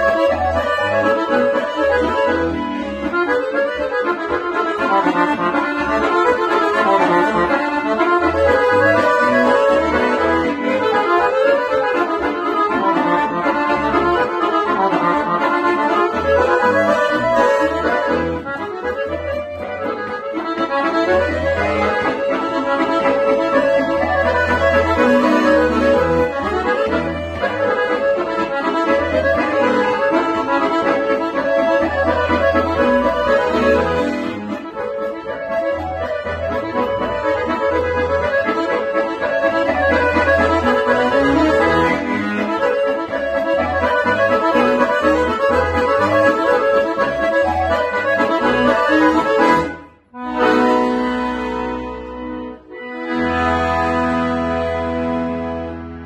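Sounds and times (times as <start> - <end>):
accordion playing fast dance tune: 0.0 - 56.0.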